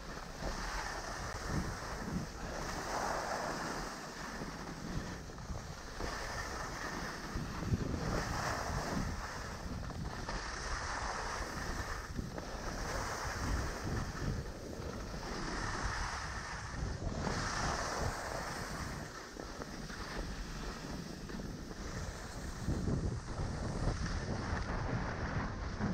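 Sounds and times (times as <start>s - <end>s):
skis scraping over snow: 0.0s - 25.9s
wind buffeting microphone: 0.0s - 25.9s.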